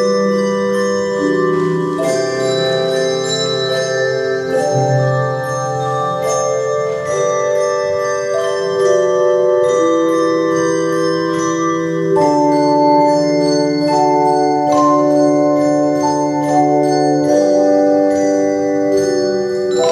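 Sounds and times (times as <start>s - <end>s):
bell-like instrumental chords: 0.0s - 19.9s.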